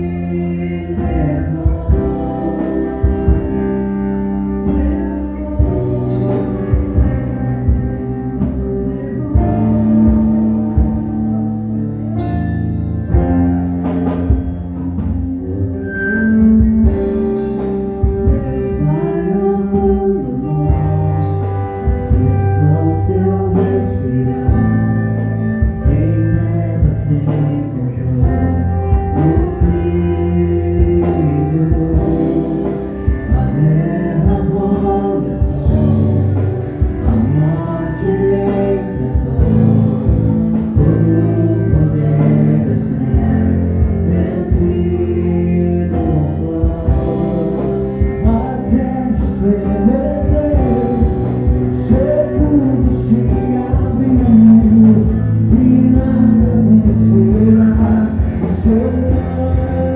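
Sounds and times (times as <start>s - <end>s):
gospel band playing: 0.0s - 59.9s
person singing: 0.0s - 59.9s.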